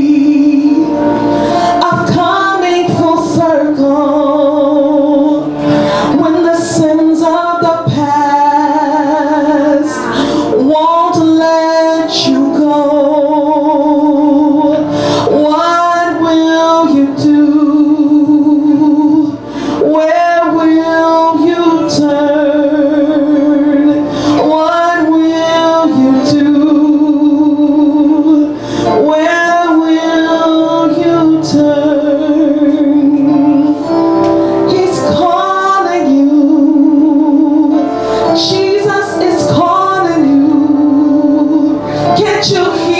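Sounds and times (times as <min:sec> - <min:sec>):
woman singing slow song: 0:00.0 - 0:42.9.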